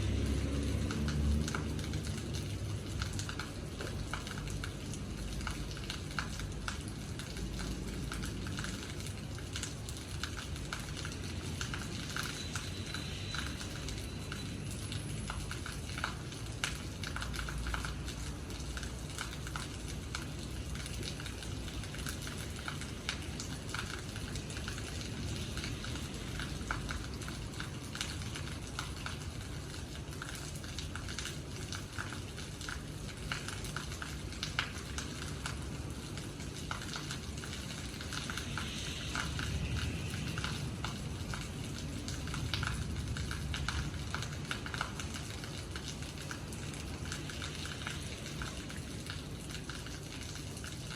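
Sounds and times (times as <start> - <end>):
rain falling: 0.0 - 50.9
drops tapping and dripping: 0.1 - 50.8.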